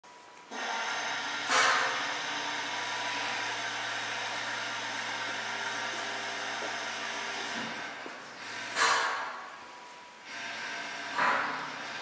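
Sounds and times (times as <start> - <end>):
railcar equipment hiss and hum: 0.1 - 12.0.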